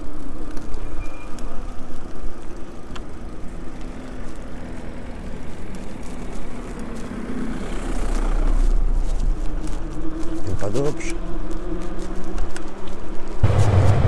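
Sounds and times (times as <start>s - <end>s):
tyre noise on paving stones: 0.0s - 14.0s.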